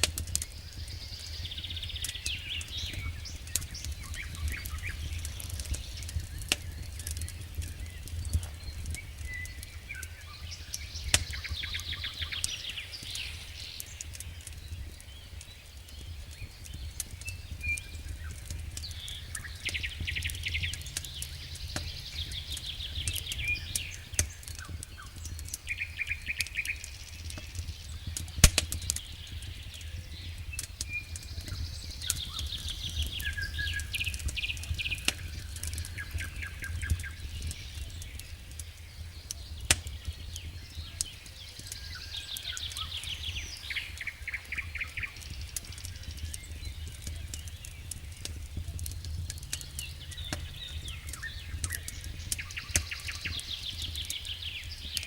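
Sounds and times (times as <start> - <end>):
small birds chirping: 0.0 - 55.0
wood fire crackling: 0.0 - 55.0.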